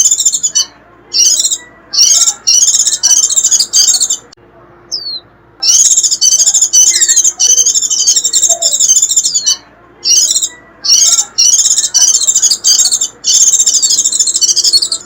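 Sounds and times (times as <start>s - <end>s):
bird high-pitched twittering: 0.0s - 15.0s.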